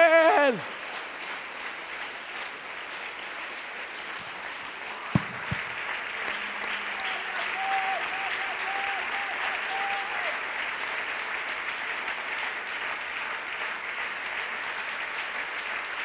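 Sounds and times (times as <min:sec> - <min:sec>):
congregation applauding: 0:00.0 - 0:16.0.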